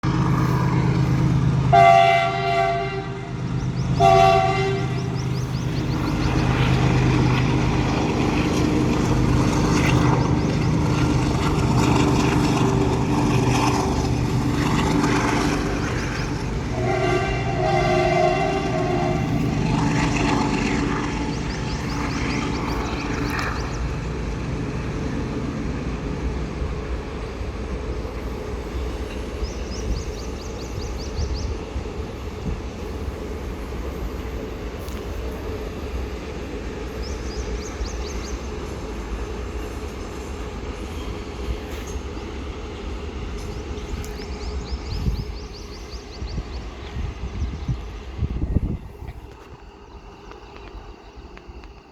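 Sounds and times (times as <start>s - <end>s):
freight train rumbling by: 0.0s - 51.9s
locomotive engine under power: 0.0s - 51.9s.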